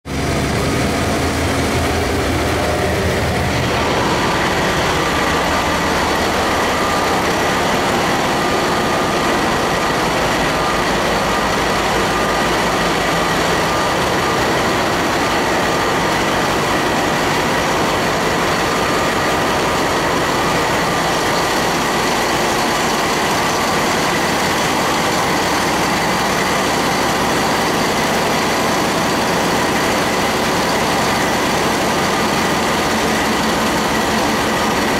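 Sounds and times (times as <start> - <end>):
diesel engine running: 0.1 - 34.9
high mechanical whine: 0.1 - 34.9.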